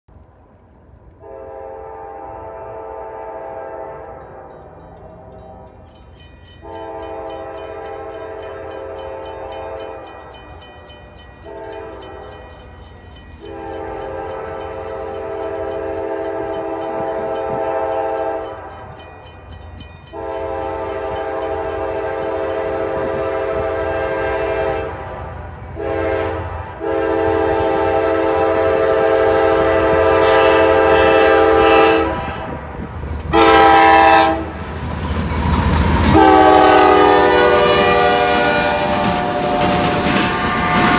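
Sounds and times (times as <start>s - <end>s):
train rumble: 0.1s - 40.9s
locomotive air horn blasts: 1.2s - 5.8s, 6.6s - 10.4s, 11.4s - 12.7s, 13.4s - 18.9s, 20.1s - 25.0s, 25.8s - 32.6s, 33.3s - 34.6s, 36.1s - 40.9s.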